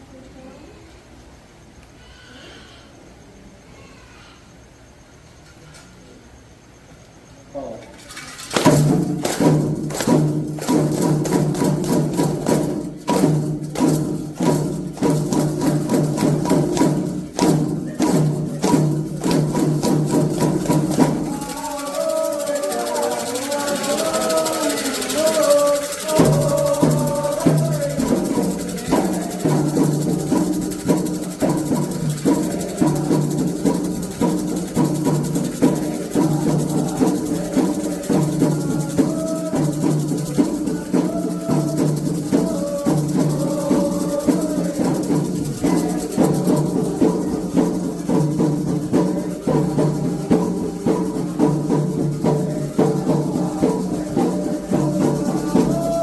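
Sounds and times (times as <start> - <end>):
shaker rattling: 7.8 - 56.0
drums: 8.2 - 56.0
voices singing: 8.7 - 56.0.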